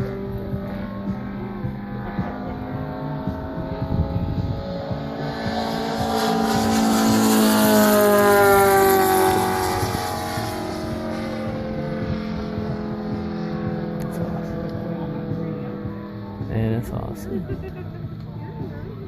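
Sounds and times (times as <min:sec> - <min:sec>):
model plane engine flyby: 0:00.0 - 0:19.0.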